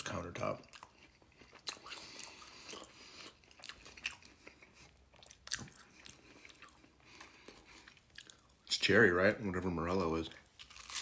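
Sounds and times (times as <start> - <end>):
chewing and crunching toast: 0.0 - 8.8, 10.2 - 11.0.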